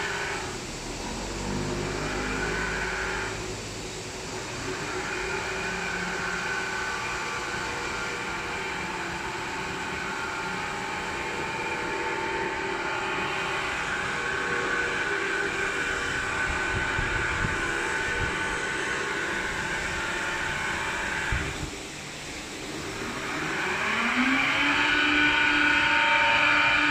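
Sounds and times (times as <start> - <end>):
car wash machine whine: 0.0 - 26.9.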